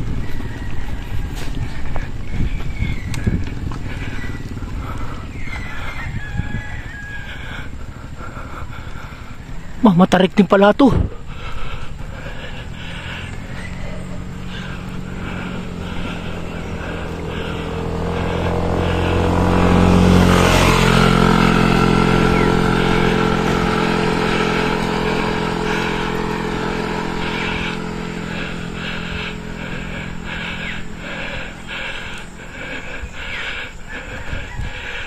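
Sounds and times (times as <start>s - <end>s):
motor scooter passing by: 0.0s - 9.8s, 10.9s - 35.0s.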